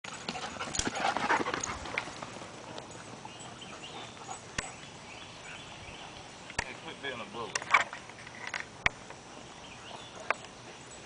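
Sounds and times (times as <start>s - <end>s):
outdoor background: 0.0s - 11.0s.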